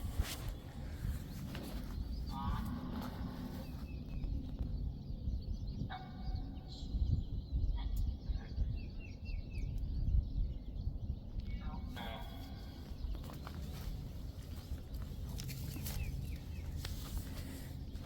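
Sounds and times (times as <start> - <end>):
birds chirping: 0.0 - 18.0
steady low rumble: 0.0 - 18.0.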